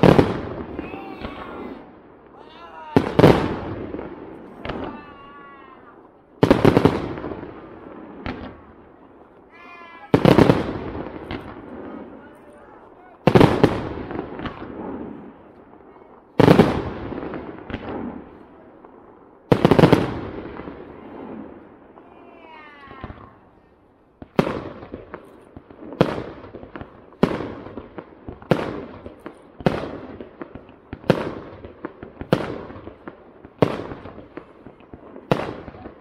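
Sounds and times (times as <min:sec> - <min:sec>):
fireworks booming with rumbling tail: 0:00.0 - 0:36.0
sharp fireworks bangs: 0:00.0 - 0:36.0.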